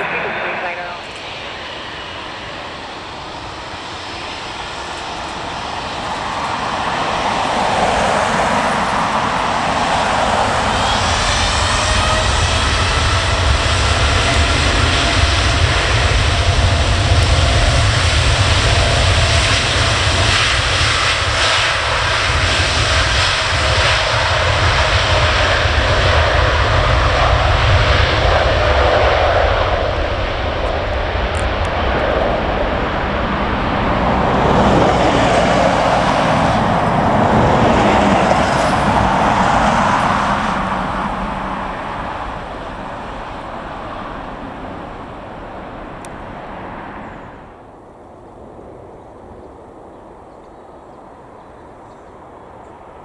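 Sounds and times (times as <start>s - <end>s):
airliner engines running: 0.0s - 53.0s.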